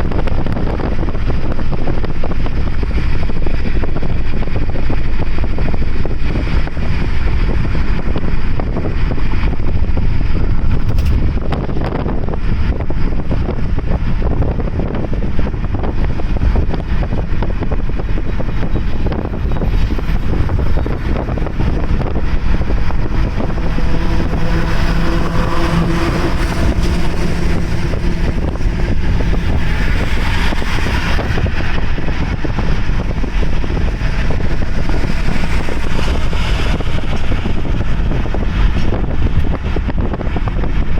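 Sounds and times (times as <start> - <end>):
steady pitched hum: 0.0 - 40.1
car road and engine rumble: 0.0 - 40.9
wind buffeting microphone: 0.0 - 40.9.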